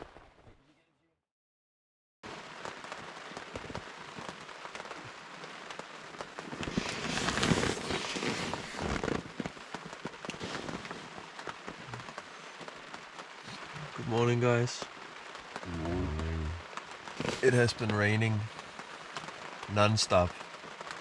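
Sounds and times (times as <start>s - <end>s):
rain drops ticking on surface: 2.2s - 21.0s.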